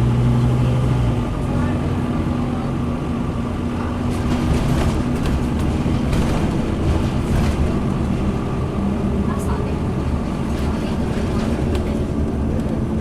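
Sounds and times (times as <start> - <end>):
bus engine droning: 0.0 - 13.0
bus body rattling: 1.2 - 13.0.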